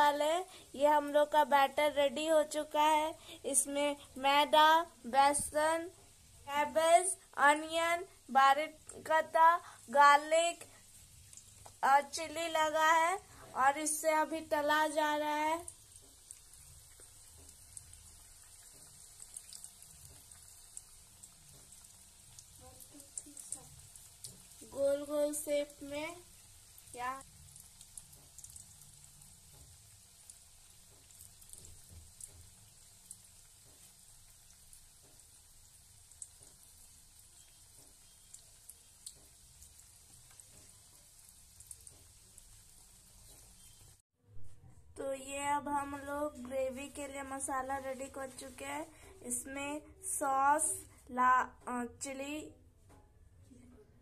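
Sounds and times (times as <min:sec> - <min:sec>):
batter deep-frying in oil: 0:00.0 - 0:44.0, 0:45.0 - 0:52.5.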